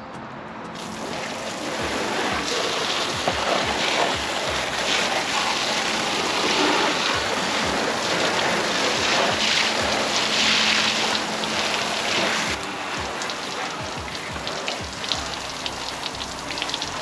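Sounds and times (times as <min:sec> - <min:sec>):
hose spraying water: 0:00.8 - 0:17.0.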